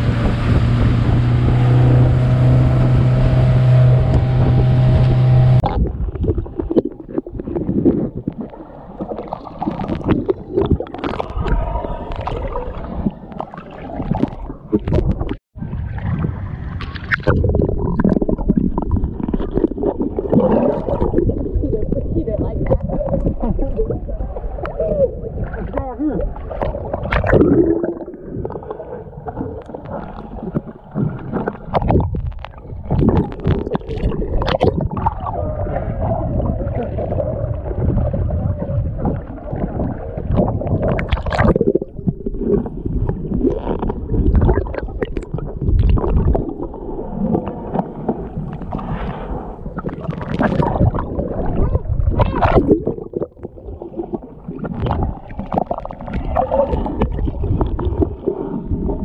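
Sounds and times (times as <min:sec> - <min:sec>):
sharp knocks and splashes: 0:00.0 - 0:21.4, 0:25.5 - 0:28.6, 0:29.2 - 0:35.4, 0:36.2 - 0:49.1, 0:49.7 - 0:58.3
muffled water sloshing and gurgling: 0:00.0 - 0:59.0.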